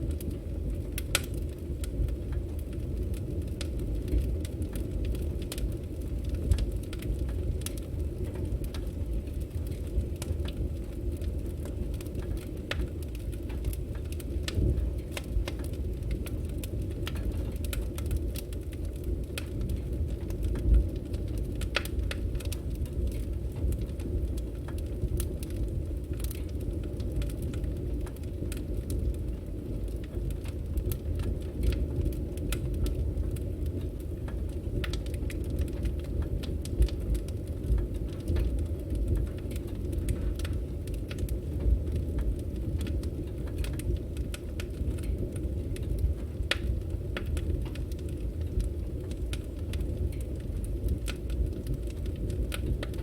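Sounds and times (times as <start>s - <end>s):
firewood burning and crackling: 0.0s - 53.0s.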